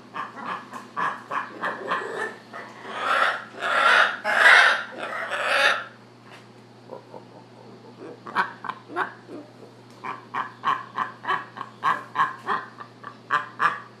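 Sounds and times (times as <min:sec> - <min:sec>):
macaws calling sharply: 0:00.0 - 0:06.0, 0:06.9 - 0:14.0.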